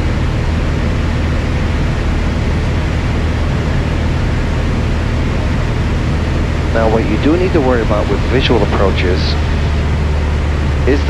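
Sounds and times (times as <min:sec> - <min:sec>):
airplane engine and propeller drone: 0:00.0 - 0:11.0.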